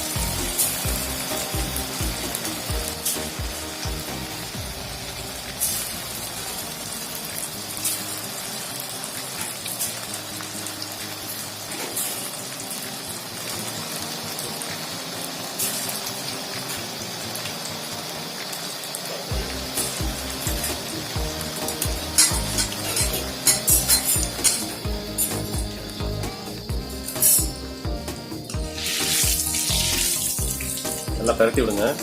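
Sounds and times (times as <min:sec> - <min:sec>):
food deep-frying in oil: 0:00.0 - 0:32.0
sharp oil crackle: 0:00.0 - 0:32.0.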